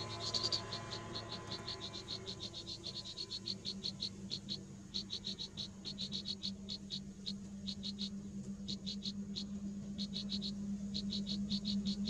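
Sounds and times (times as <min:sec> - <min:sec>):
nestlings peeping: 0:00.0 - 0:12.0.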